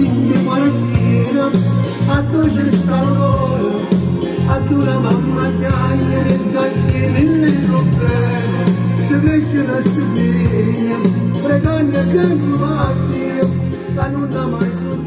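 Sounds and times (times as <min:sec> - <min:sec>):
pop song with singing: 0:00.0 - 0:15.0.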